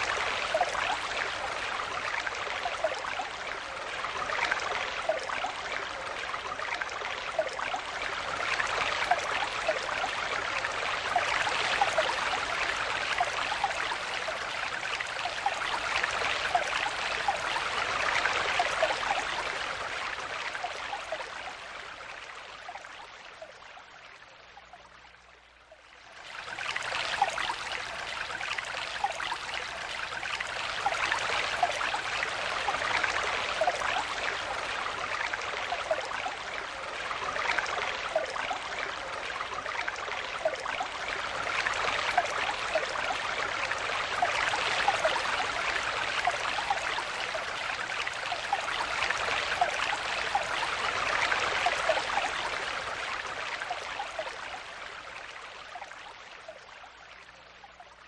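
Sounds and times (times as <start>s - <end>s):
stream water gurgling: 0.0s - 58.0s.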